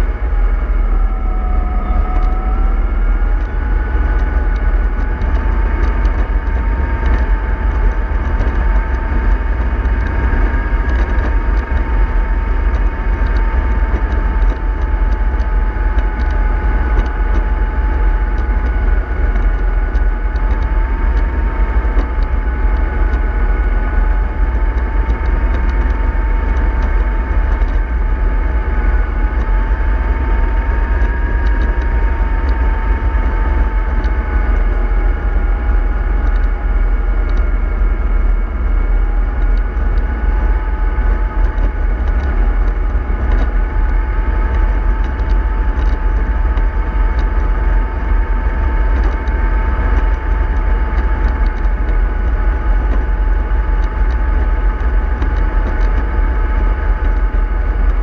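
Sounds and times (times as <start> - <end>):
vehicle driving with low rumble: 0.0 - 58.0
wavering whine: 0.0 - 58.0.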